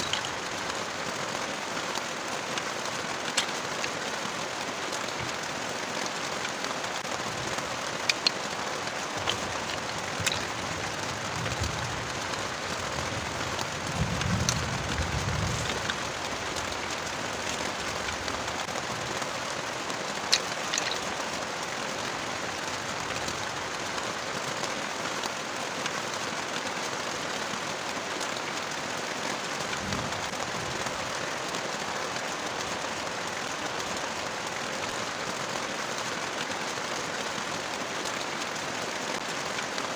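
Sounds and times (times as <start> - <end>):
heavy rain pouring: 0.0 - 39.9
sharp drip-like ticks: 0.0 - 39.9.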